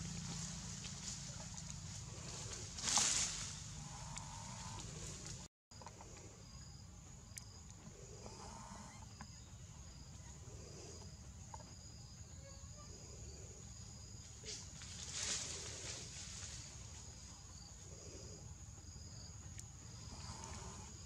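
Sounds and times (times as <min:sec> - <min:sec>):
faint low outdoor rumble: 0:00.0 - 0:21.0
insects droning: 0:00.0 - 0:21.0.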